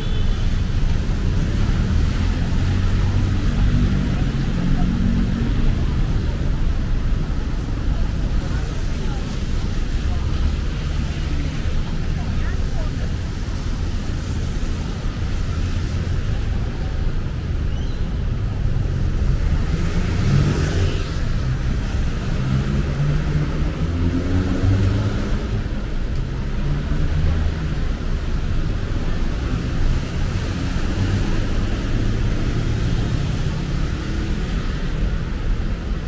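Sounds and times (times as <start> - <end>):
road traffic rumble: 0.0 - 36.0
vehicles passing: 0.0 - 36.0.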